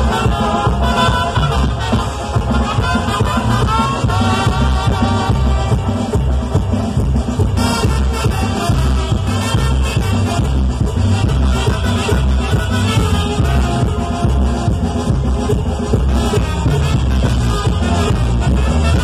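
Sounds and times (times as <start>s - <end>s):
live brass band latin dance music: 0.0s - 19.0s.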